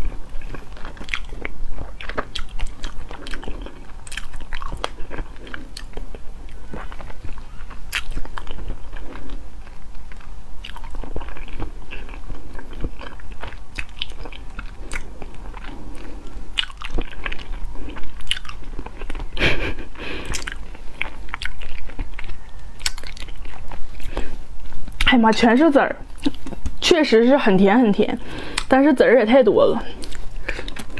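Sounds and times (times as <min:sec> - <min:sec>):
wet chewing mouth clicks and smacks: 0:00.3 - 0:19.4, 0:20.2 - 0:25.1, 0:30.0 - 0:30.9.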